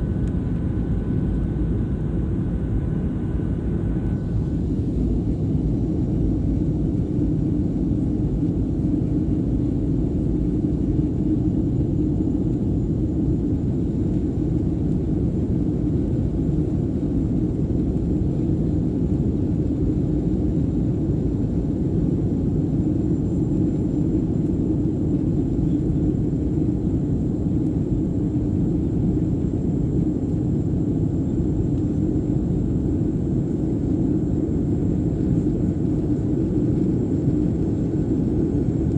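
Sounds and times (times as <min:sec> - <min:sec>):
airliner engines rumbling: 0:00.0 - 0:38.9
faint high whine: 0:00.0 - 0:38.9.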